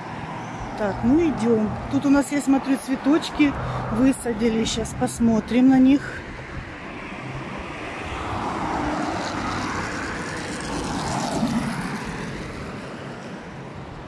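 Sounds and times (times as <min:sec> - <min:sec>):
cars driving past: 0:00.0 - 0:14.0.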